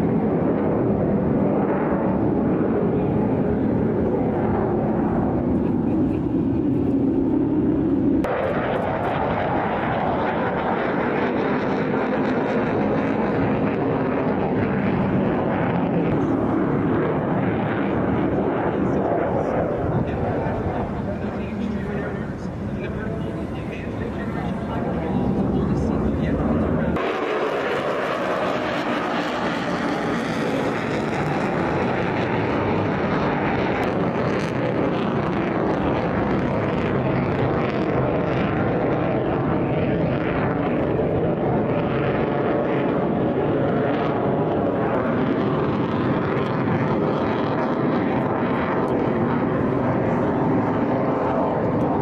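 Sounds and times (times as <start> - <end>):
jet engine roar: 0.0 - 52.0.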